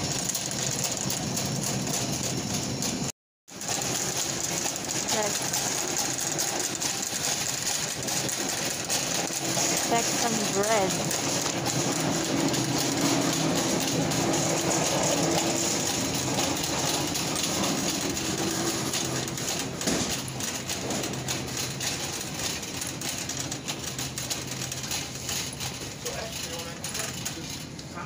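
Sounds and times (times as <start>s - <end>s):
shopping cart wheels rolling: 0.0s - 28.0s.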